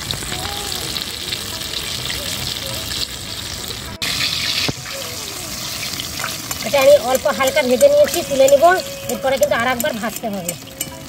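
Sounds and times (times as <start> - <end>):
chicken deep-frying in oil: 0.0 - 11.0.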